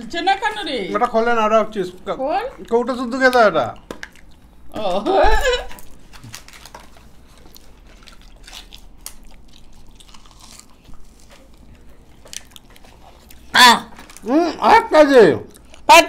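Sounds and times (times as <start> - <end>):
people chewing chocolate: 2.2 - 16.0.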